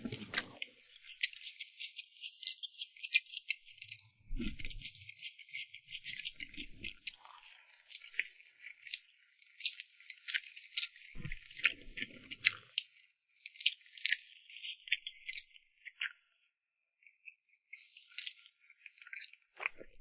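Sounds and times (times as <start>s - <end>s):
wet eating clicks and crackles: 0.0s - 20.0s.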